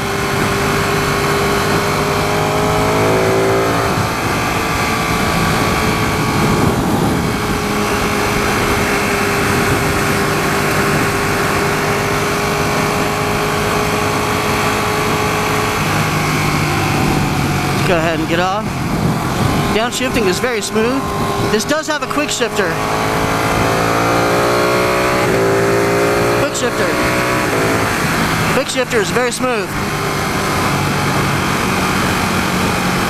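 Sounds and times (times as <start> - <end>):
wind noise: 0.0 - 28.6
motorcycle engine at speed: 0.0 - 33.0.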